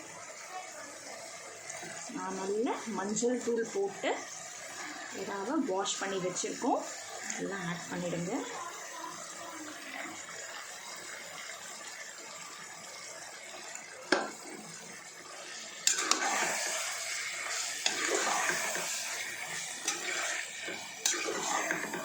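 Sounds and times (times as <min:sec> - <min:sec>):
wet sizzling hiss: 0:00.0 - 0:12.0, 0:13.6 - 0:22.0
food sizzling in a pan: 0:00.0 - 0:22.0.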